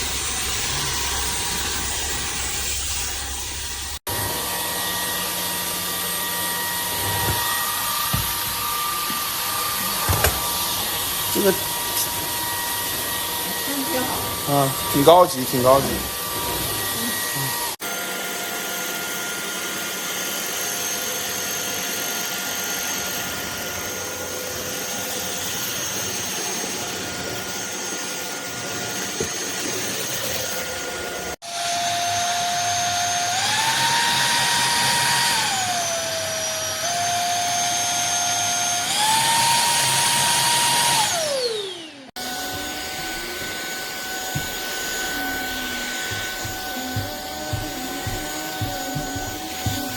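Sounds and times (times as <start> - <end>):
vacuum cleaner motor whining: 0.0 - 49.9.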